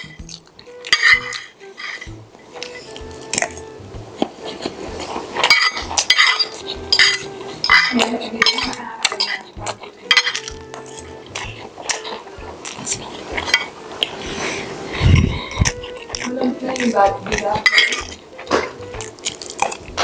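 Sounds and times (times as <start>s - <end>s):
cutlery clinking on plate: 0.0s - 3.6s, 4.2s - 14.6s, 15.6s - 20.0s
quiet background music: 0.0s - 20.0s.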